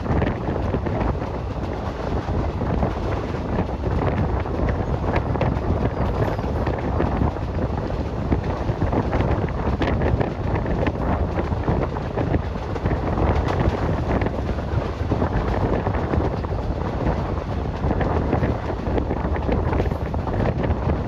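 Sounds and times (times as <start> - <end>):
train running rumble: 0.0 - 21.0
wind buffeting microphone: 0.0 - 21.0.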